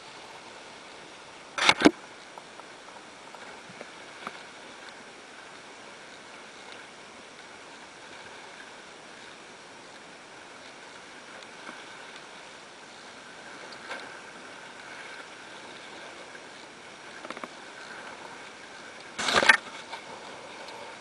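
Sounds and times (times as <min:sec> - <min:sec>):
water rushing along boat hull: 0:00.0 - 0:21.0
wind: 0:00.0 - 0:21.0.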